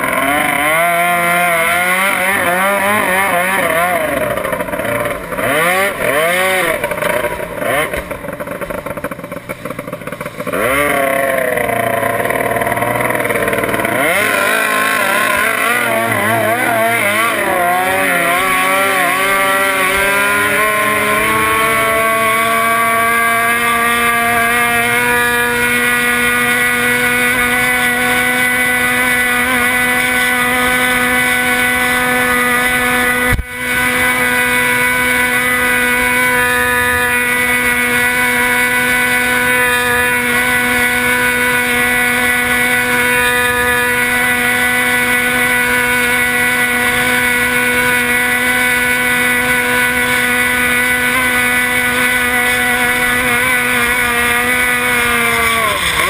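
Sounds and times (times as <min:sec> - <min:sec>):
boat engine running at high speed: 0:00.0 - 0:56.0.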